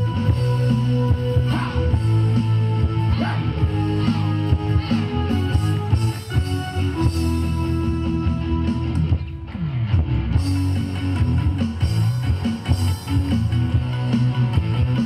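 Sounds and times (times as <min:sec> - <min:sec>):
dance music with full band: 0:00.0 - 0:15.0.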